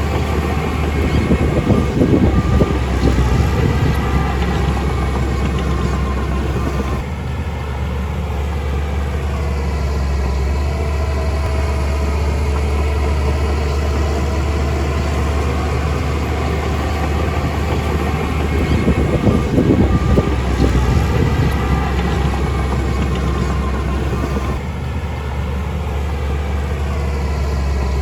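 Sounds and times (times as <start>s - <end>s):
heavy diesel engine rumbling: 0.0s - 28.0s.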